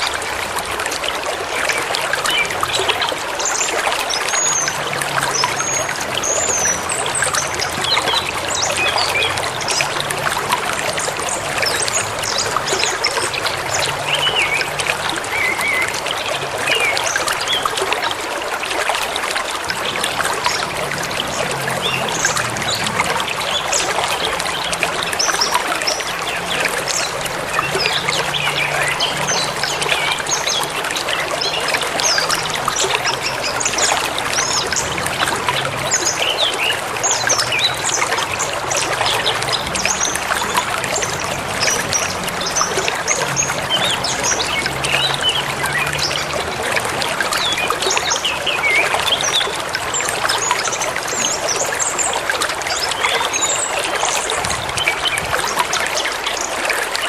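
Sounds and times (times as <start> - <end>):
stream flowing and splashing: 0.0 - 57.0.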